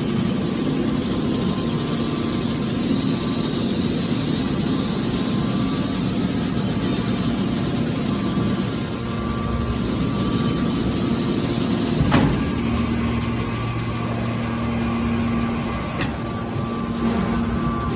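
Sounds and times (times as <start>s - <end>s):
baler machinery humming: 0.0s - 17.9s.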